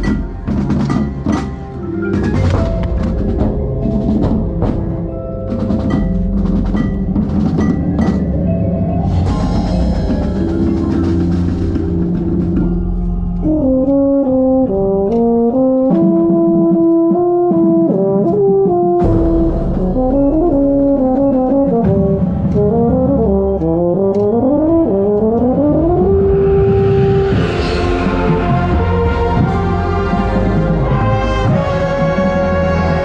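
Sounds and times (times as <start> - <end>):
band accompaniment: 0.0 - 33.0.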